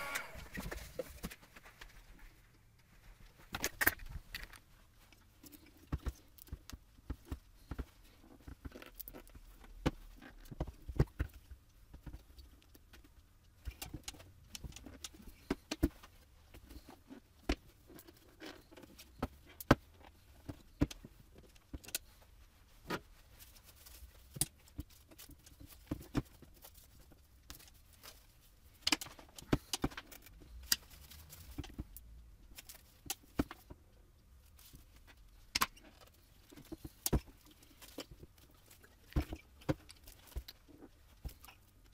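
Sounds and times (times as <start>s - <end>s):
plastic parts clicking and knocking: 3.5s - 22.2s, 23.9s - 33.9s, 34.6s - 41.9s.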